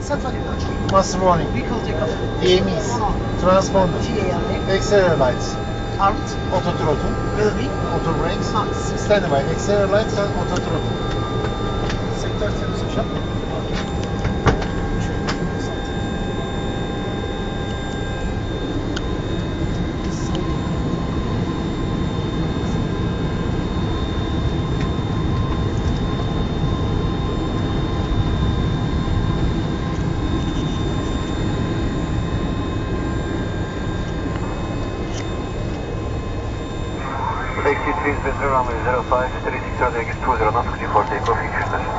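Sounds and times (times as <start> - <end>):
faint steady whines: 0.0 - 41.9
idling jet engines rumble: 0.0 - 41.9.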